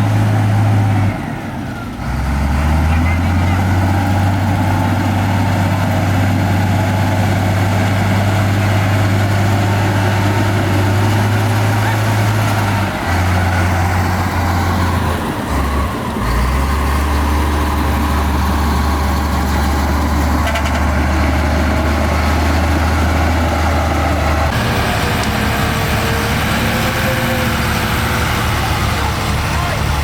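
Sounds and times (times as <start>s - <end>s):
heavy machinery diesel engines droning: 0.0s - 30.0s.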